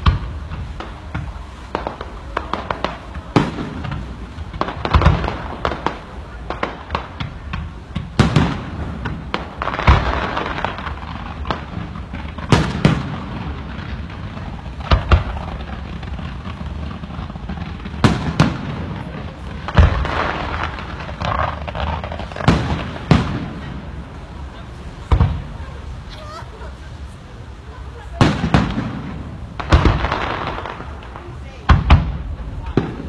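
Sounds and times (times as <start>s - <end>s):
crackle and rumble of fireworks: 0.0s - 33.0s
fireworks bangs: 0.0s - 33.0s.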